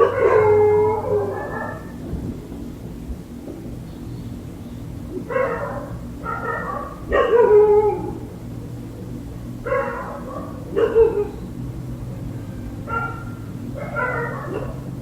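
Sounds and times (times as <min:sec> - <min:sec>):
dogs barking outside: 0:00.0 - 0:15.0
low room hum: 0:00.0 - 0:15.0.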